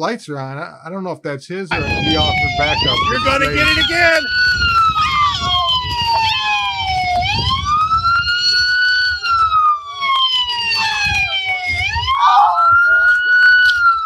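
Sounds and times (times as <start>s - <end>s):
police siren wailing: 1.7s - 14.0s.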